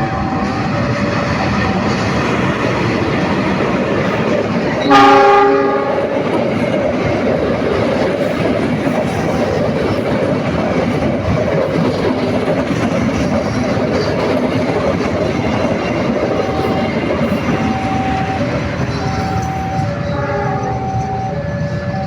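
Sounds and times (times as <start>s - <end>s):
train rumbling over rails: 0.0s - 22.0s.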